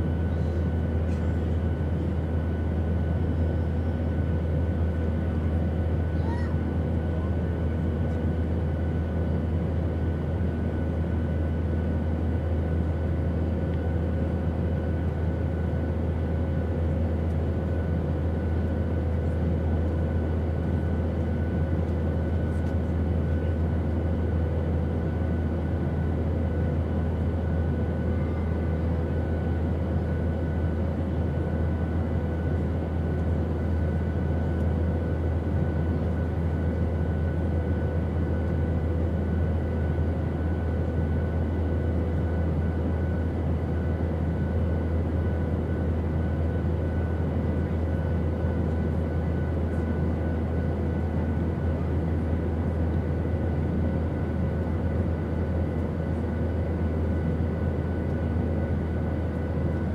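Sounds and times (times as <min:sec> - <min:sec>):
airplane drone: 0:00.0 - 0:59.9.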